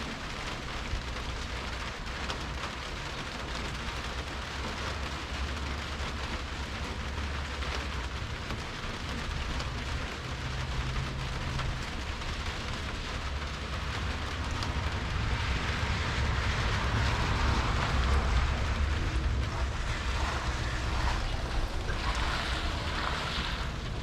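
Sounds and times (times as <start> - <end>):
rain hiss: 0.0 - 24.0
vehicle engine rumble: 0.0 - 24.0.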